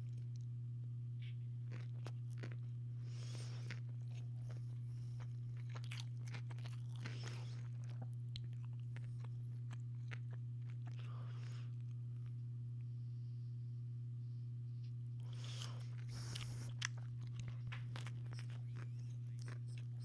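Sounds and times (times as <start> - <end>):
chewing and crunching sandwich: 0.0 - 12.9, 14.8 - 20.0
low steady hum: 0.0 - 20.0.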